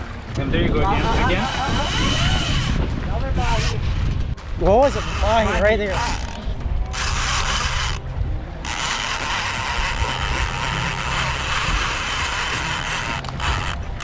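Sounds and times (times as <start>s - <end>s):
outboard motors humming: 0.0s - 3.7s, 4.4s - 14.0s
wind and water hiss: 0.0s - 14.0s.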